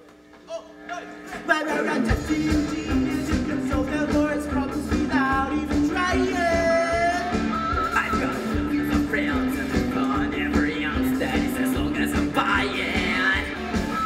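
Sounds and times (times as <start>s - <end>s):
rock song with singing: 0.4s - 14.0s.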